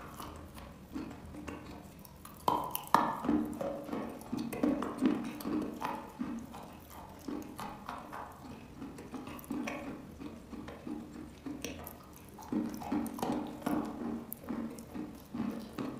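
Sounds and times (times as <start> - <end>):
chewing crumbly chalk: 0.0 - 15.9
moist mouth clicks: 0.0 - 15.9.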